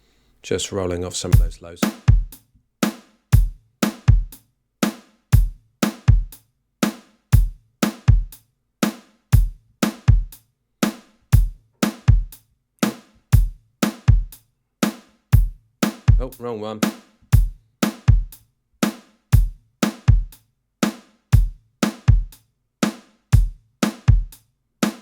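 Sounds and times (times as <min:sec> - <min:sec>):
looping drum groove: 0:01.0 - 0:25.0.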